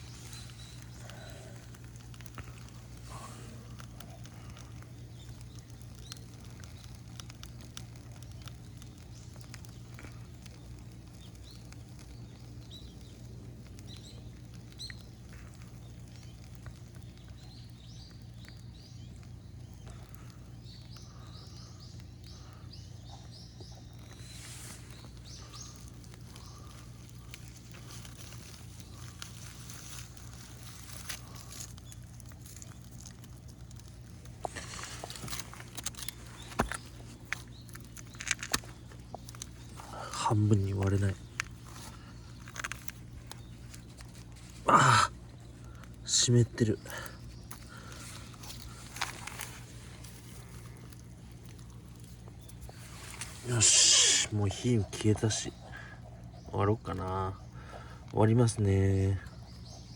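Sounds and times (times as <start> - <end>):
birds chirping: 0.0 - 59.9
bonfire crackles and ticks: 0.0 - 59.9
steady low hum: 0.0 - 59.9.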